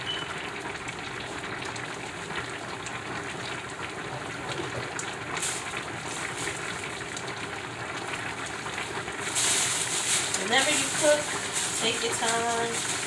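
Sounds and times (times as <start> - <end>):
food bubbling and hissing: 0.0 - 13.0.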